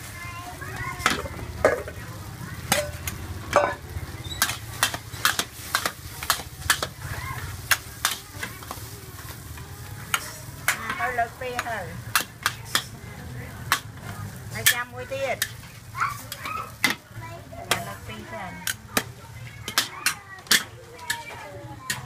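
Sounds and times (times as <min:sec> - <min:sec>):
food sizzling: 0:00.0 - 0:22.0
metal utensils clanking on wok: 0:00.7 - 0:22.0.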